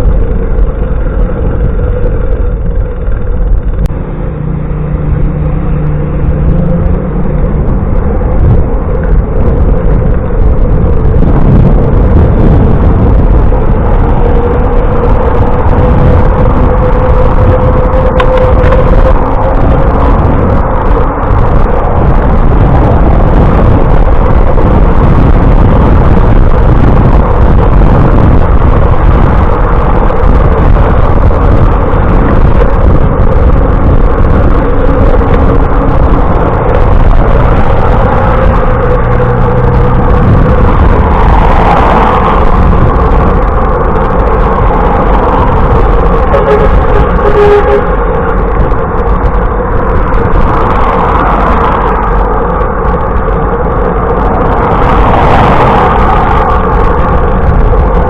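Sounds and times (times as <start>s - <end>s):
road noise: 0.0s - 58.0s
wind rushing: 0.0s - 58.0s.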